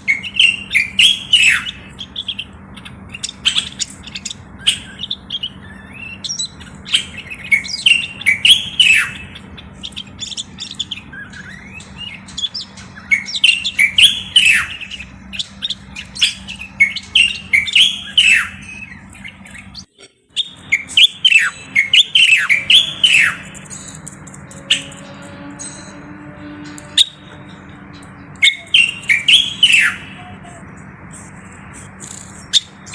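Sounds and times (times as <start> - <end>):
bulbul singing whistled notes: 0.0 - 2.5, 3.2 - 32.9.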